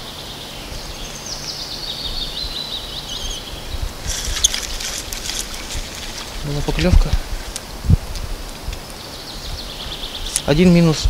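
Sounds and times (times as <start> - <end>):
songbird trilling: 0.0 - 6.8, 8.9 - 11.0
outdoor background noise: 0.0 - 11.0.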